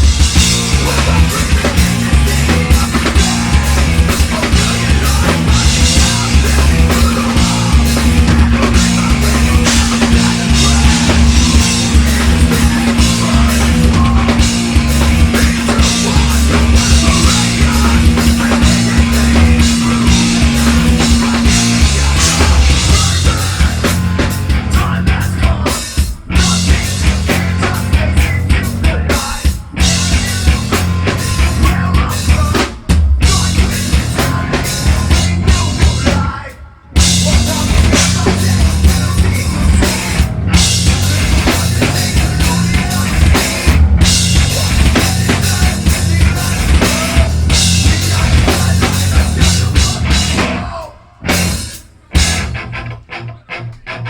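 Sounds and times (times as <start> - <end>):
heavy drum kit: 0.0 - 53.1
live metal band playing: 0.0 - 54.0.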